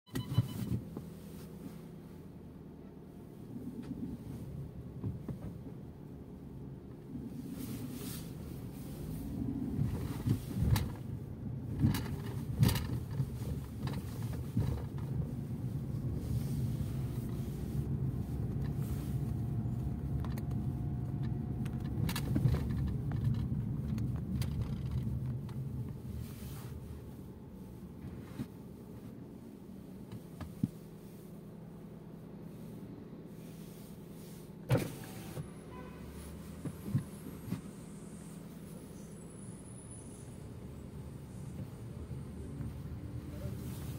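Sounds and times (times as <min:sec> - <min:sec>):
car engine and road hum: 0:00.0 - 0:43.9.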